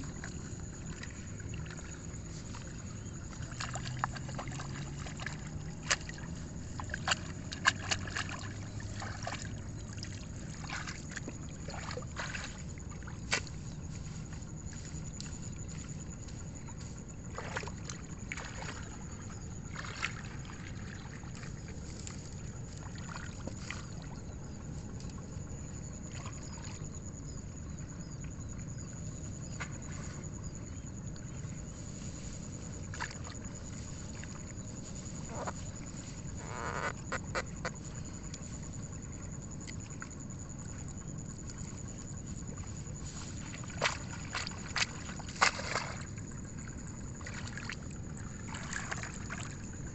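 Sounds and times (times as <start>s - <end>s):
mud and water squelching: 0.0s - 26.8s, 29.4s - 49.9s
faint high whine: 0.0s - 49.9s
steady low rumble: 0.0s - 49.9s.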